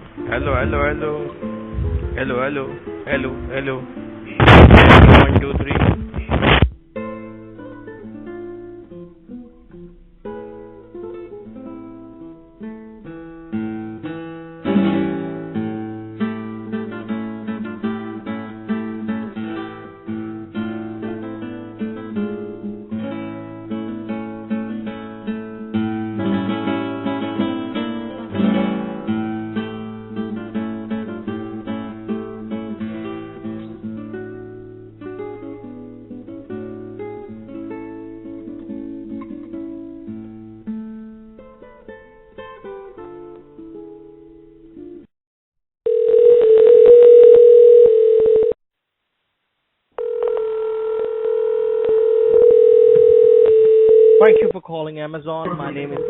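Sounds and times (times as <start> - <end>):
acoustic guitar plucked and strummed: 0.0 - 45.1.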